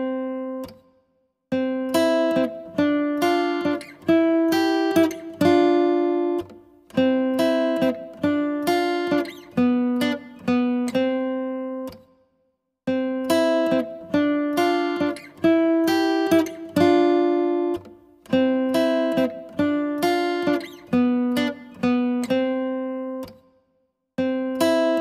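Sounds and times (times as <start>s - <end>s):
plucked acoustic guitar melody: 0.0s - 0.9s, 1.5s - 12.2s, 12.9s - 23.5s, 24.2s - 25.0s.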